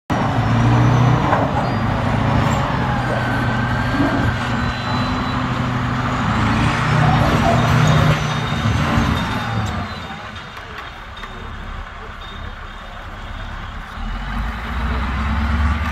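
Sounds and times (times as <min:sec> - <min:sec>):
bulldozer diesel engine: 0:00.1 - 0:15.9.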